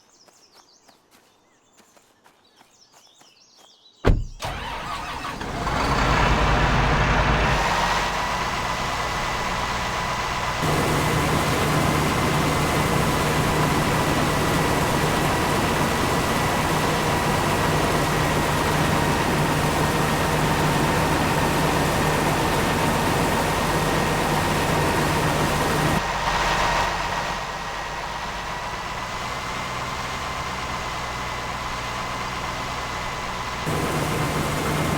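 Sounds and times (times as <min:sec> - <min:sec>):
farm machine engine whining: 0:04.3 - 0:34.9.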